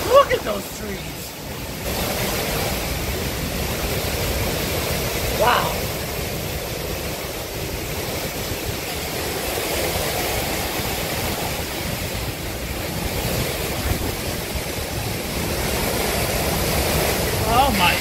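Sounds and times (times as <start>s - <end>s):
strong wind blowing: 0.0s - 18.0s
wind-driven rain: 0.0s - 18.0s.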